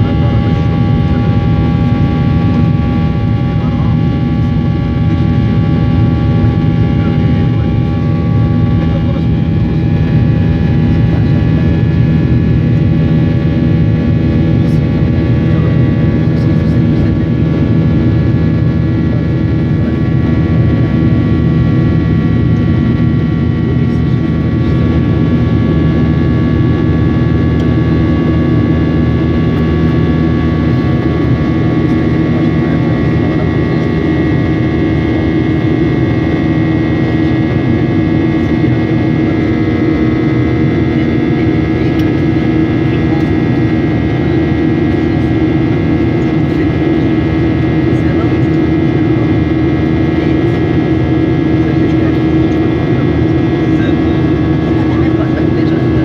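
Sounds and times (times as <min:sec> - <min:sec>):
jet engine cabin drone: 0:00.0 - 0:56.0
steady whining tones: 0:00.0 - 0:56.0.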